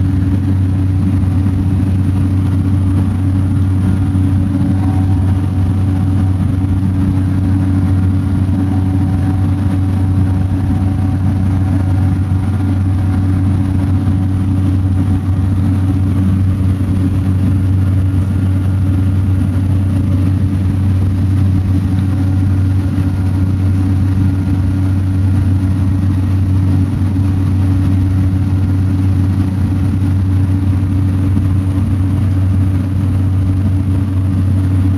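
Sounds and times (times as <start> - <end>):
small plane engine and propeller droning: 0.0 - 34.9.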